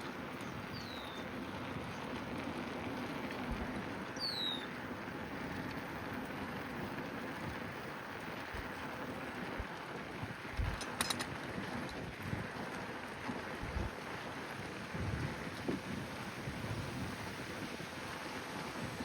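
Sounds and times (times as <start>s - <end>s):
bicycle tyres rolling: 0.0s - 19.0s.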